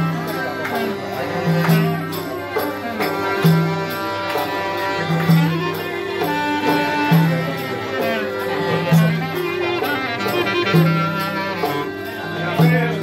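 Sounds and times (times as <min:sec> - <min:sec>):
accordion: 0:00.0 - 0:13.0
clarinet melody: 0:00.0 - 0:13.0.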